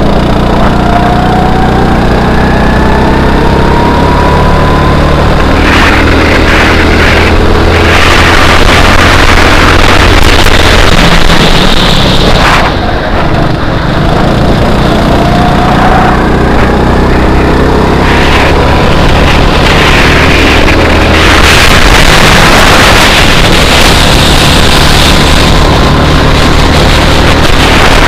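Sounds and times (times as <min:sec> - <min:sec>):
go-kart engine revving: 0:00.0 - 0:28.0
wind noise on microphone: 0:00.0 - 0:28.0.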